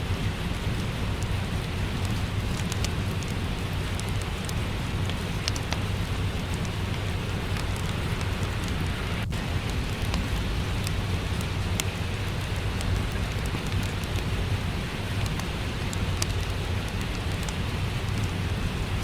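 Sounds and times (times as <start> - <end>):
fireplace crackling and popping: 0.0 - 19.0
low rumble: 0.0 - 19.0
steady rain: 0.0 - 19.0.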